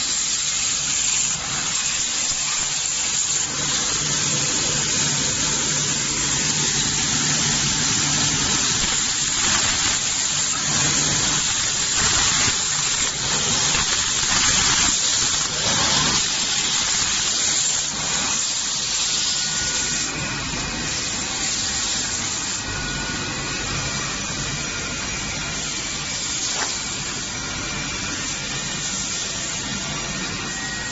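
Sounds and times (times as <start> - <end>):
grinding machine rushing hiss: 0.0 - 30.9.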